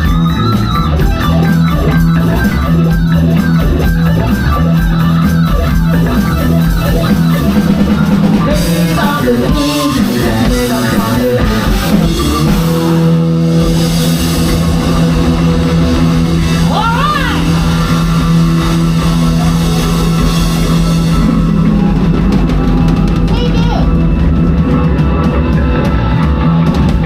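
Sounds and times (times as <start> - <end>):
bass guitar: 0.0 - 27.0
drum kit: 0.0 - 27.0
electric guitars: 0.0 - 27.0.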